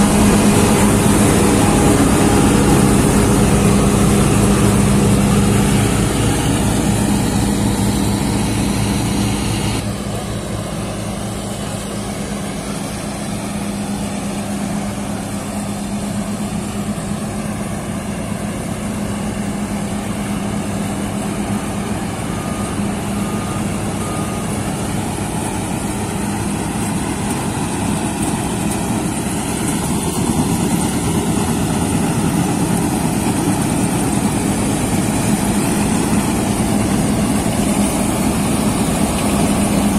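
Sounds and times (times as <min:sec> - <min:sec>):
combine harvester engine: 0:00.0 - 0:39.9.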